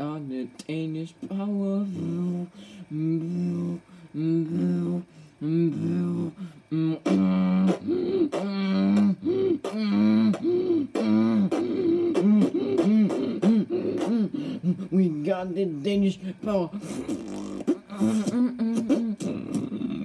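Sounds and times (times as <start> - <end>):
boy beatboxing: 0.0 - 20.0.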